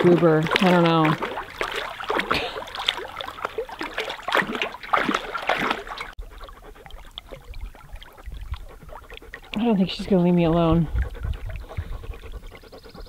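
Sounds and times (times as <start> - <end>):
dog splashing through water: 0.0 - 13.0.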